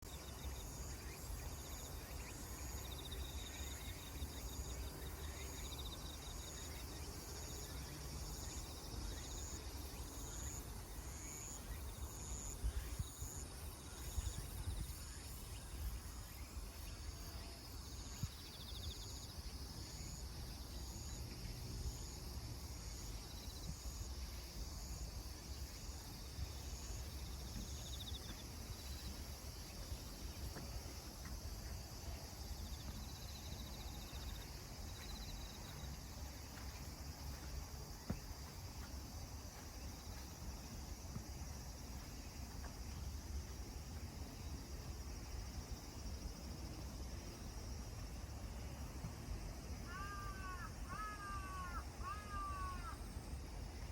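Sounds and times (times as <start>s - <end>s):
insects chirping: 0.0s - 53.9s
low insect trills: 0.1s - 53.9s.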